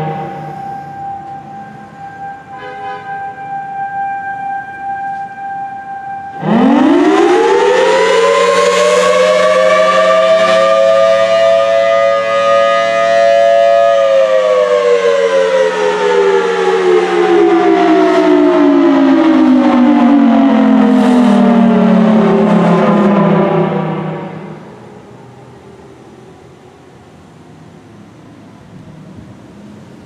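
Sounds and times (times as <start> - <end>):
tornado siren wailing: 0.0 - 28.1.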